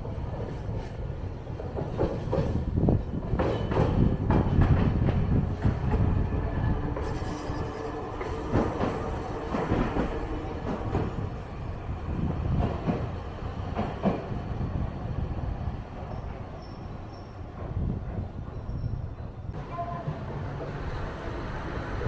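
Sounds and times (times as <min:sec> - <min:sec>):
streetcar rumbling on rails: 0:00.0 - 0:22.0.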